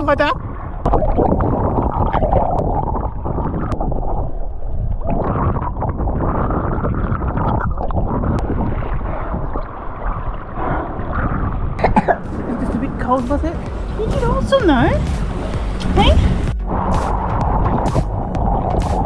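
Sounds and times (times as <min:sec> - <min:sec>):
sea water rushing: 0:00.0 - 0:19.0
wind buffeting microphone: 0:00.0 - 0:19.0.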